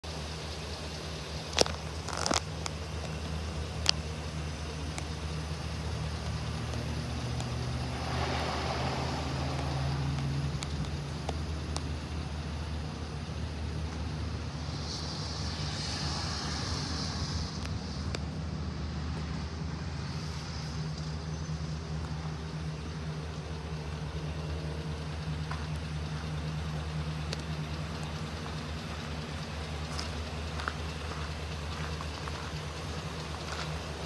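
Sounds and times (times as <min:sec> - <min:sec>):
pickup engine idling: 0:00.0 - 0:34.0.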